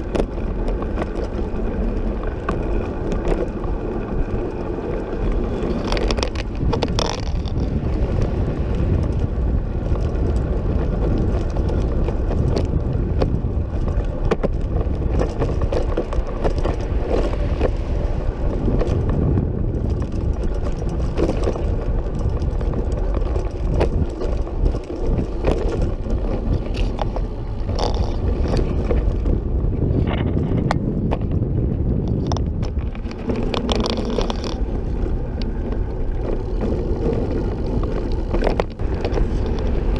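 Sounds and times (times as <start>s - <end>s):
small clicks and rattles: 0.0s - 29.4s, 32.0s - 39.9s
tyre noise on pavement: 0.0s - 39.9s
wind rumble on microphone: 0.0s - 39.9s.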